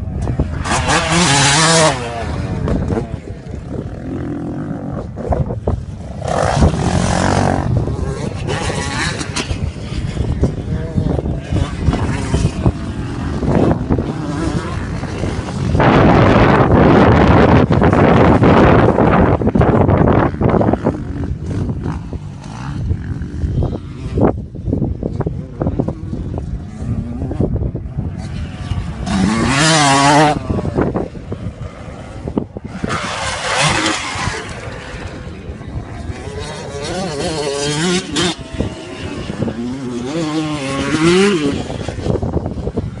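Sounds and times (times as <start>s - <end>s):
wind rumbling on microphone: 0.0s - 43.0s
motorcycles revving past: 0.1s - 43.0s.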